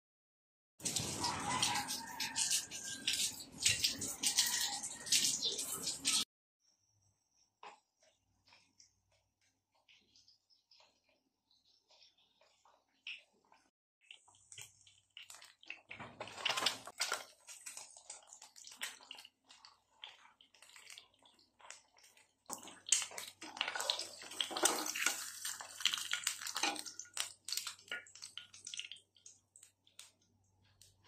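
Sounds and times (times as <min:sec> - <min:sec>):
eggs sizzling in oil: 0:00.8 - 0:06.3, 0:07.6 - 0:31.0.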